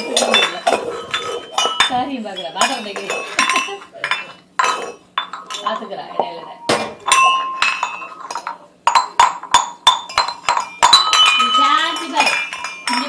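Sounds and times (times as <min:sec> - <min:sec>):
metal pots clanging: 0:00.0 - 0:13.0.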